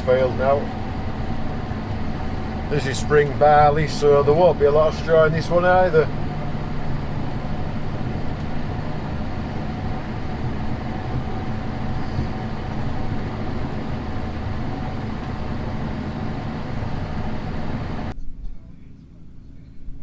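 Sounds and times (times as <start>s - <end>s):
tractor engine running: 0.0s - 18.2s
thin steady whine: 0.0s - 20.0s.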